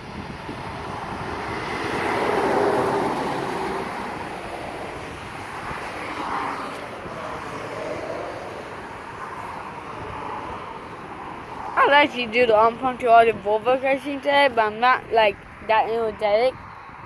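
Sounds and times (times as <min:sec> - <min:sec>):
truck passing on road: 0:00.0 - 0:17.0.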